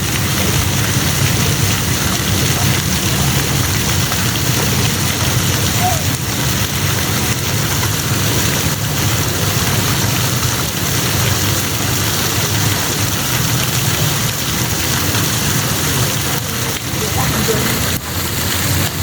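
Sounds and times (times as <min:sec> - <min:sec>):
falling water spray rushing: 0:00.0 - 0:19.0.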